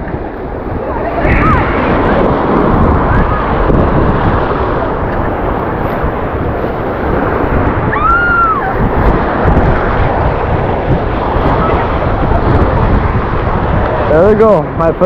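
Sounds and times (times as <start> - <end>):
waves breaking on rocks: 0.0 - 15.0
wind buffeting microphone: 0.0 - 15.0.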